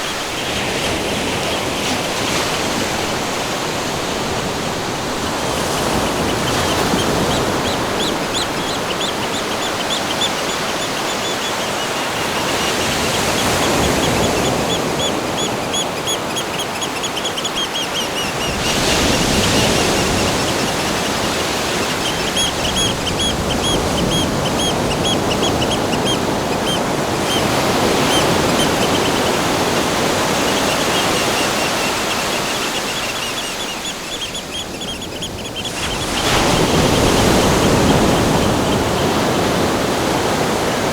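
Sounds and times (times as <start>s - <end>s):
rushing water: 0.0s - 40.9s
high-pitched chirping trills: 5.3s - 38.5s.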